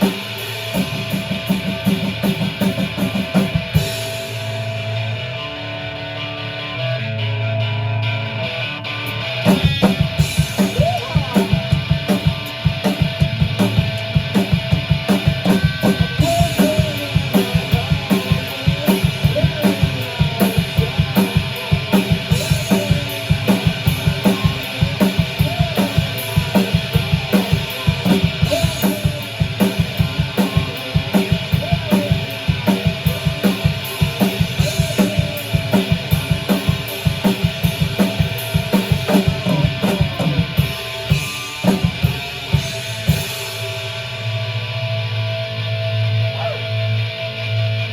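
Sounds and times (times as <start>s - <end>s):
drum kit fast beat: 0.0s - 5.1s, 9.3s - 44.4s
sustained electric guitar: 0.0s - 47.9s.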